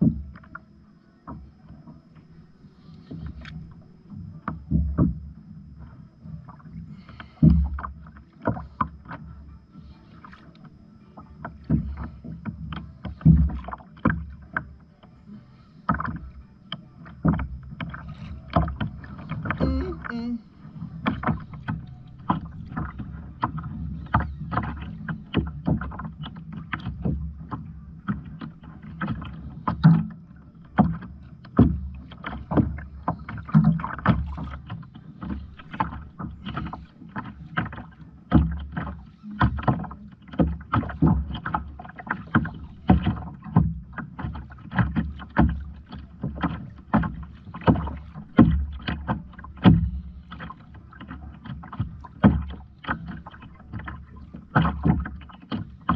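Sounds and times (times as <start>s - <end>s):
paddle splashes: 0.0s - 55.9s
water rumbling against hull: 0.0s - 55.9s.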